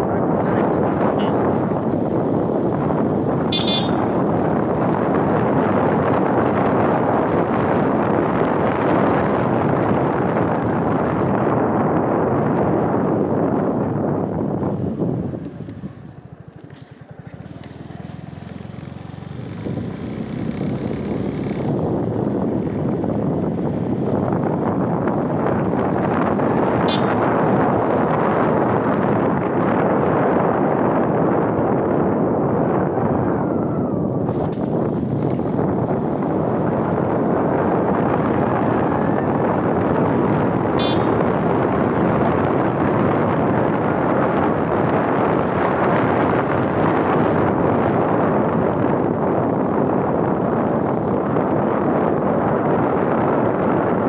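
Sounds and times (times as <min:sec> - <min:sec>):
road noise from moving vehicle: 0:00.0 - 0:54.0
wind rush on microphone: 0:00.0 - 0:54.0
motorcycle engine at low revs: 0:00.4 - 0:33.2, 0:34.1 - 0:54.0.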